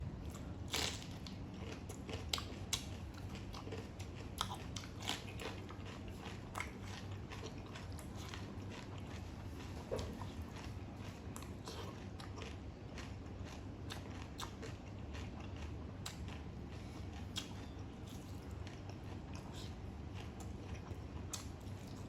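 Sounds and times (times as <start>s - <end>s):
steady low hum: 0.0s - 22.0s
person chewing food crunching: 0.2s - 22.0s.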